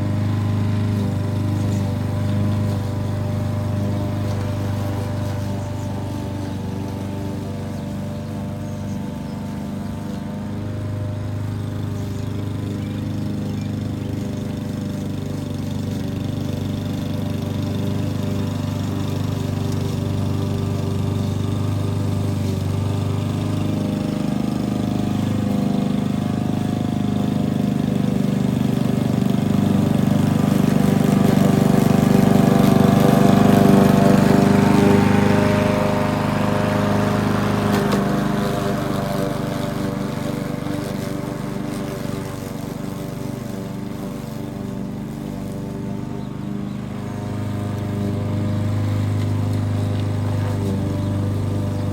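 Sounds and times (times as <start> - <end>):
lawn mower engine running: 0.0 - 51.9.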